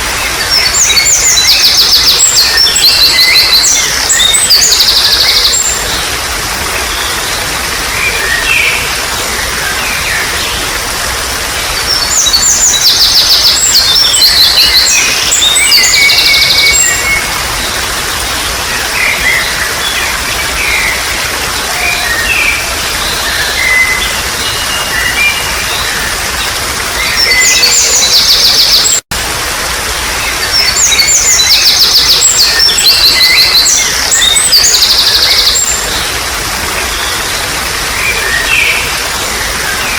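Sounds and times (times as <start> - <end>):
songbirds singing: 0.0 - 29.0, 29.9 - 39.9
water trickling: 0.0 - 39.9.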